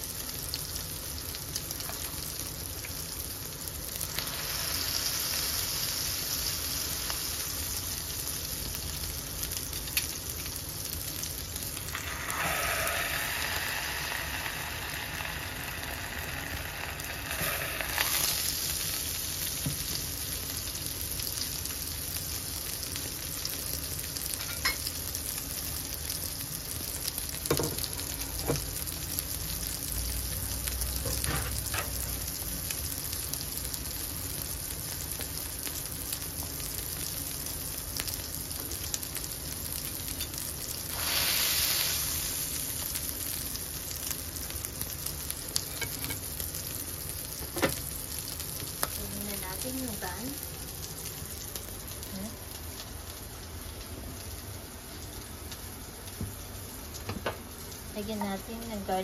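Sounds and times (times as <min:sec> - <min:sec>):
burger patty sizzling: 0:00.0 - 0:59.0.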